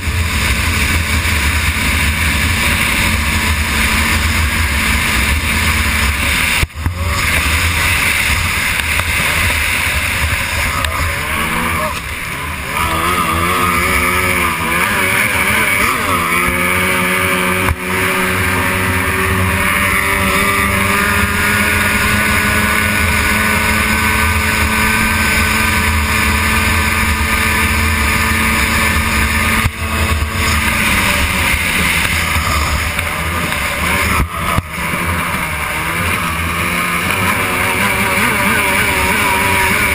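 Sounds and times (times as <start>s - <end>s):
racing outboard motor: 0.0s - 39.9s
wind and spray rushing: 0.0s - 39.9s.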